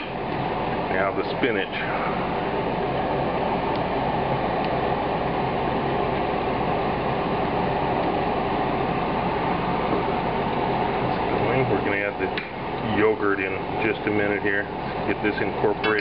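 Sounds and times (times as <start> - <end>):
fan whooshing: 0.0 - 16.0.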